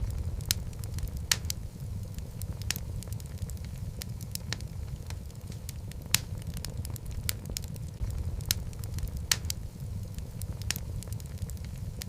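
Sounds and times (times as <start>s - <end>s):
fire rumbling: 0.0s - 12.0s
wood crackling and popping: 0.0s - 12.0s.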